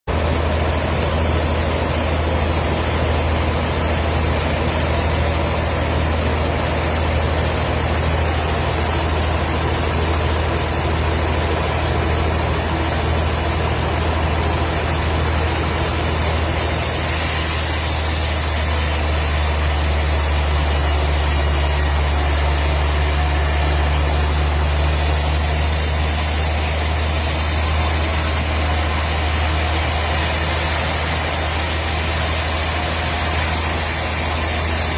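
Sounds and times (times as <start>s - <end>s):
machine engine humming: 0.1s - 34.9s.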